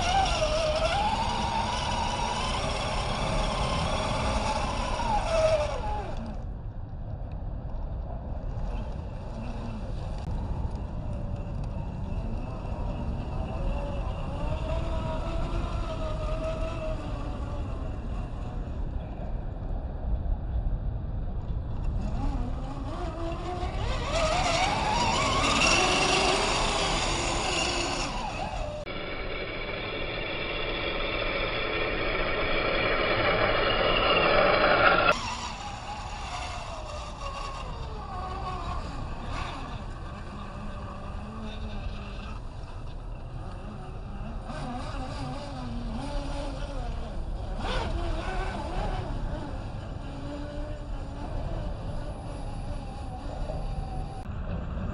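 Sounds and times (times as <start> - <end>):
rc car motor whining: 0.0 - 6.4, 11.1 - 18.5, 21.8 - 54.2.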